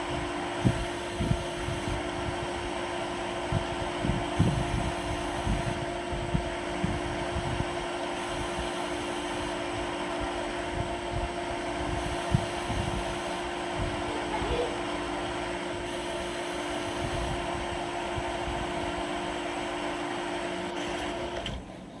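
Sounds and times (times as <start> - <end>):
lathe machine hum: 0.0 - 22.0.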